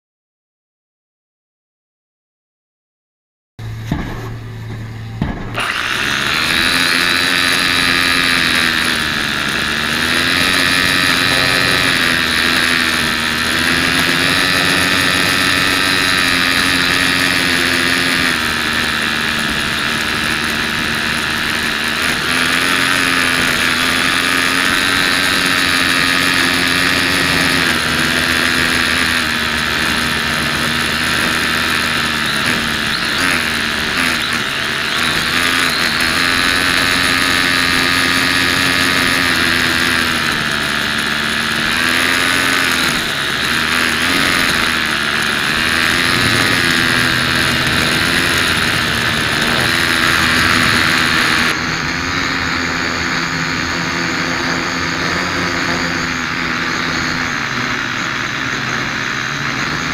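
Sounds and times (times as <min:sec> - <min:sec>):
toy drone motors whining: 0:04.9 - 0:59.9.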